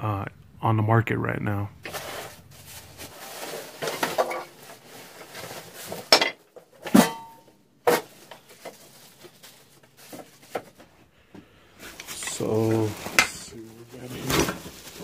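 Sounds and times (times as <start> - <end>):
cardboard and plastic rustling: 1.8 - 11.0, 11.7 - 15.0.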